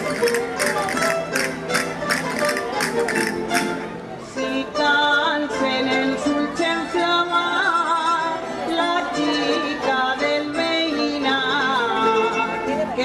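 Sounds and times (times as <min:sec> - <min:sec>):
plucked-string band with guitars: 0:00.0 - 0:13.0.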